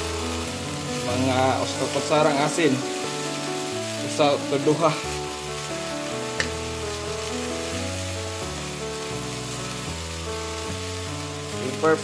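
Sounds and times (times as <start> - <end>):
background music: 0.0 - 12.0
shells sizzling in hot oil: 0.0 - 12.0.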